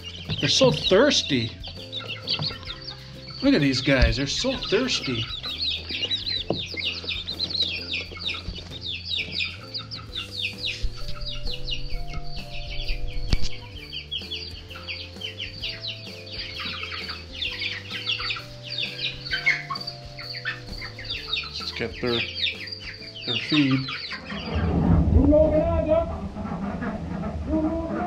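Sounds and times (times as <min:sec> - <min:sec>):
chicks peeping: 0:00.0 - 0:28.0
soft background music: 0:00.0 - 0:28.0.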